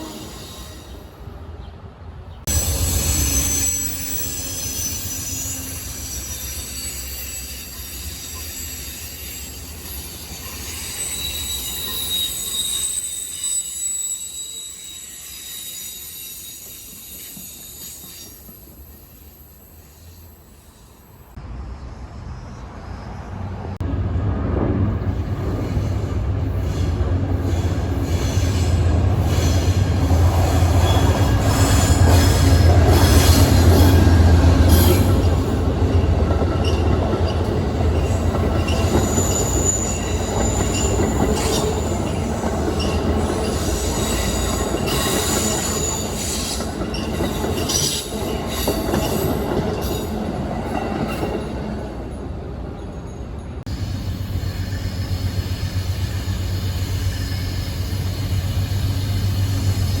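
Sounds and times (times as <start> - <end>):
train wheels squealing on rails: 0.0 - 1.4, 2.4 - 23.8, 25.1 - 60.0
train rumble: 0.0 - 13.3, 21.0 - 60.0.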